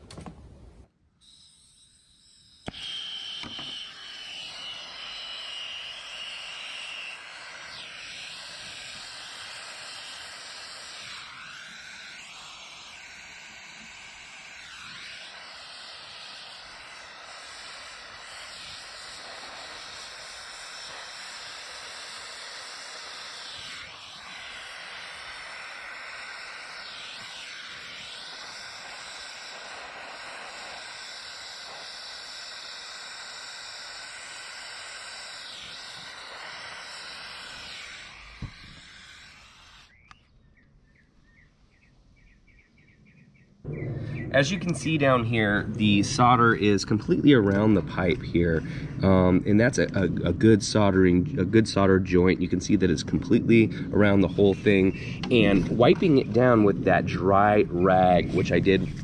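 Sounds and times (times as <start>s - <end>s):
soldering torch flame hissing: 0.0s - 40.3s, 44.4s - 59.0s.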